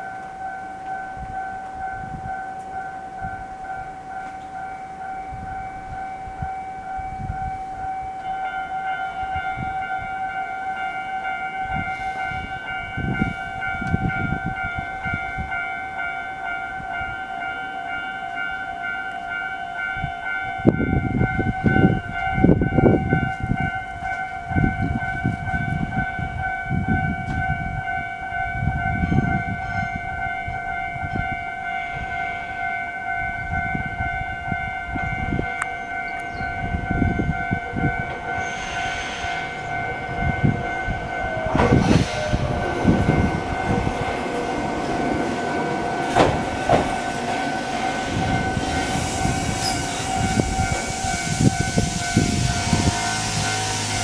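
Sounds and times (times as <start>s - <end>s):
electric train running noise: 0.0s - 54.0s
level-crossing warning bell ringing: 0.0s - 54.0s.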